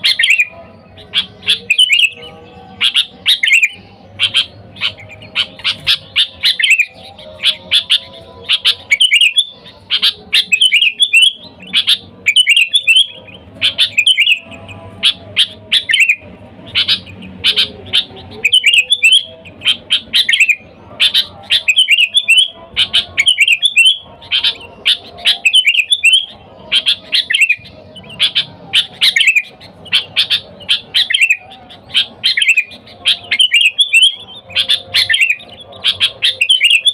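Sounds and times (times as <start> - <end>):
bird chirping: 0.0 - 36.9.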